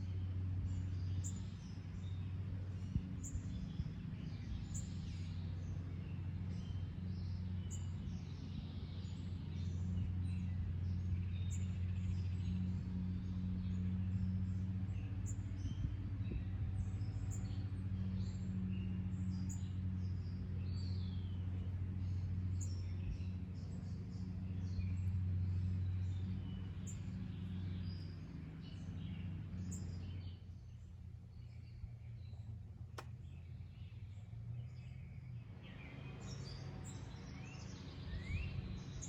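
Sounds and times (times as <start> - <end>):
low mechanical drone: 0.0 - 39.0
small birds chirping: 0.0 - 39.0.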